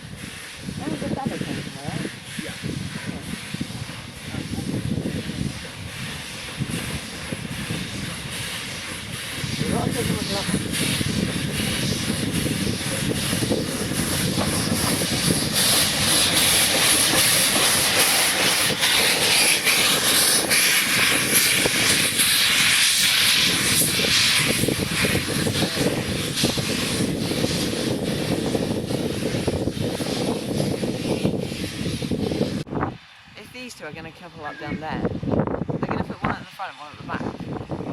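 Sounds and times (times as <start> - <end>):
steam locomotive hissing: 0.0 - 37.9.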